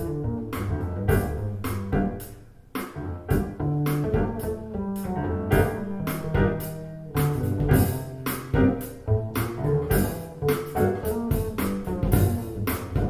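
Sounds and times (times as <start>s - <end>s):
instrumental music with drum hits: 0.0s - 13.0s.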